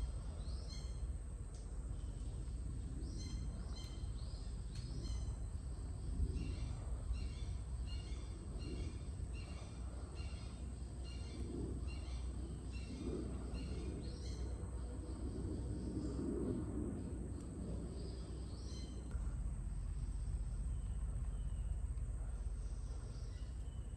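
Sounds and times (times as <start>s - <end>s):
low outdoor rumble: 0.0s - 23.9s
songbird singing: 0.0s - 23.9s.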